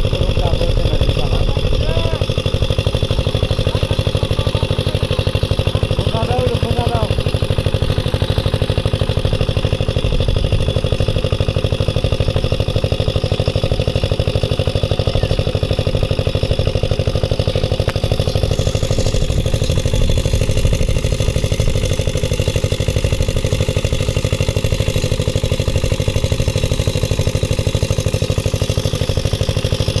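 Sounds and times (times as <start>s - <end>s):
small engine running steadily: 0.0s - 30.0s.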